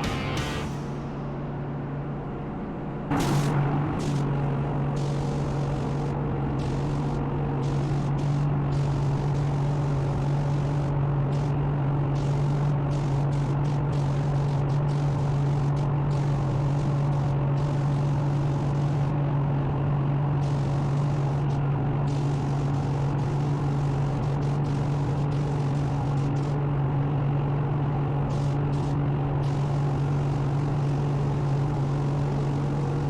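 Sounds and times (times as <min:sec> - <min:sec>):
noisy hiss: 0:00.0 - 0:19.2, 0:20.3 - 0:26.7, 0:28.0 - 0:33.0
machine hum with low drone: 0:00.0 - 0:33.0.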